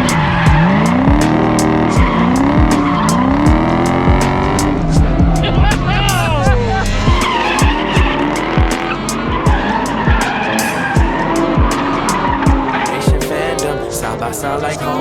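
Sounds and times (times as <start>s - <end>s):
hip-hop beat with bass kick: 0.0s - 14.0s
car engine revving: 0.0s - 15.0s.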